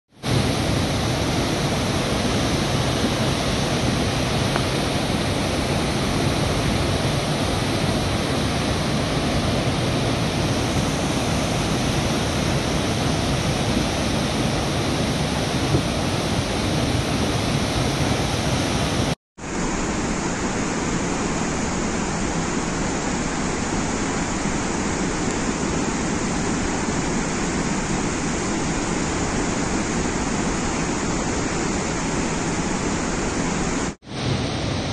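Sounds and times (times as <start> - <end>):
floodwater rushing through dam gates: 0.2 - 34.9.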